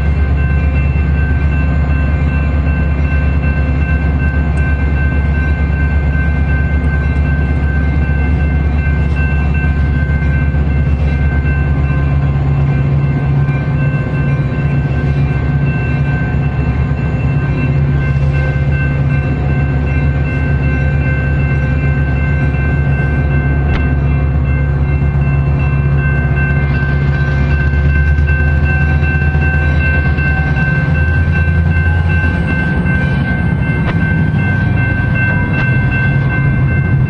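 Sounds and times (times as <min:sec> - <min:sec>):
train mechanical hum: 0:00.0 - 0:37.0.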